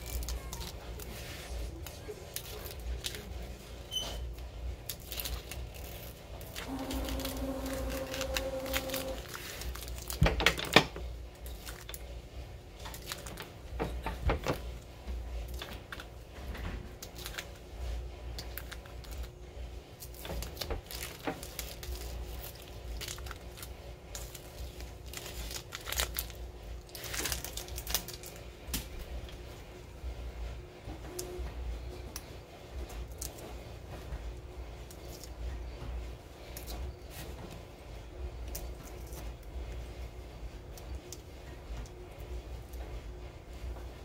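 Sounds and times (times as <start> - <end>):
vinyl crinkling and peeling: 0.0 - 44.0.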